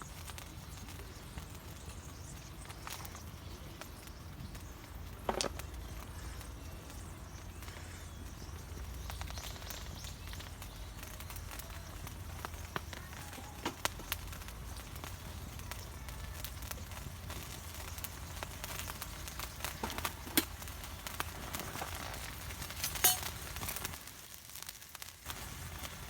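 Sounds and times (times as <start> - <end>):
low outdoor rumble: 0.0 - 24.0
campfire crackling: 0.0 - 26.0
fire pops: 0.0 - 26.0.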